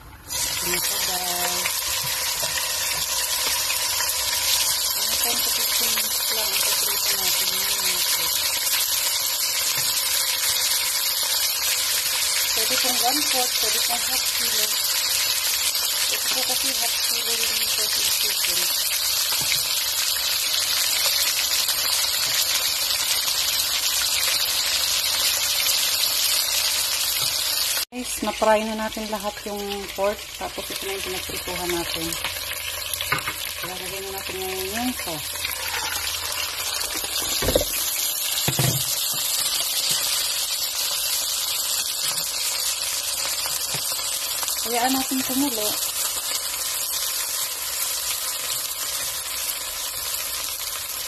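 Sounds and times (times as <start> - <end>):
meat sizzling in hot oil: 0.0 - 51.0.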